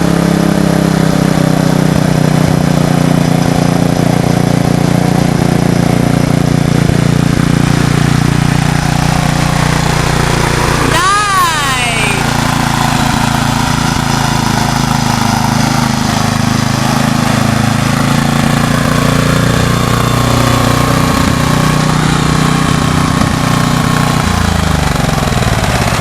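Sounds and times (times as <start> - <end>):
riding lawnmower engine running: 0.0 - 26.0.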